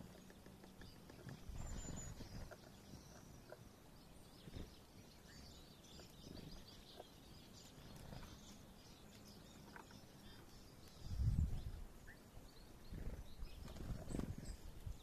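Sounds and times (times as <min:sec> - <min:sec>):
small birds calling: 0:00.0 - 0:15.0.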